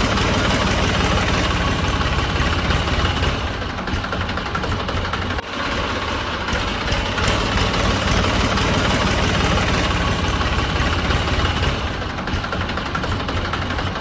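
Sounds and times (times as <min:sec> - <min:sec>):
small tractor engine running: 0:00.0 - 0:14.0.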